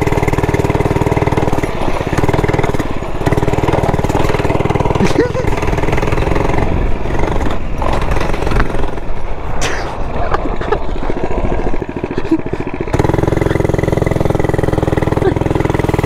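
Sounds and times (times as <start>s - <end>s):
mini bike engine running: 0.0s - 16.0s.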